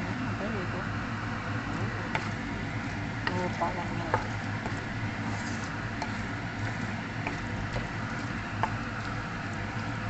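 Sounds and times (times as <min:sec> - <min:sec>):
steady low hum: 0:00.0 - 0:10.0
curry simmering and sizzling: 0:00.9 - 0:10.0.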